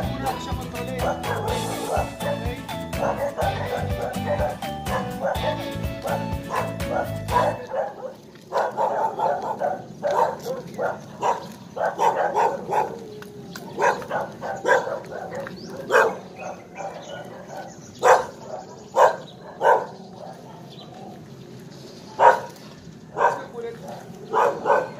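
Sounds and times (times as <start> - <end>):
dog barking: 1.0 - 13.1, 13.7 - 21.2, 22.1 - 24.9.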